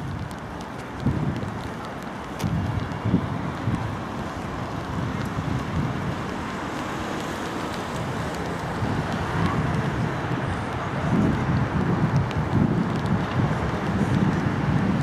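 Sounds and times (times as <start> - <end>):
outdoor background rumble: 0.0 - 15.0
wind buffeting microphone: 0.0 - 15.0.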